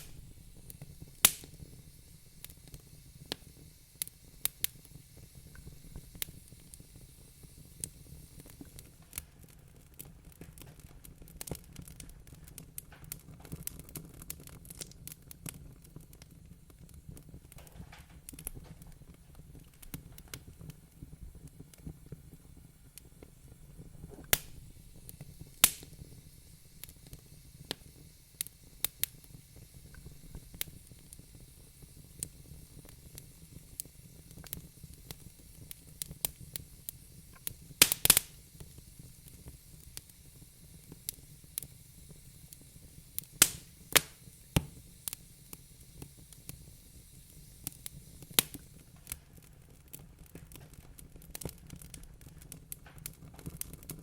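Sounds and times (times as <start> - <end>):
faint hiss: 0.0 - 54.0
low fire rumble: 0.0 - 54.0
wood fire pops and snaps: 0.0 - 54.0.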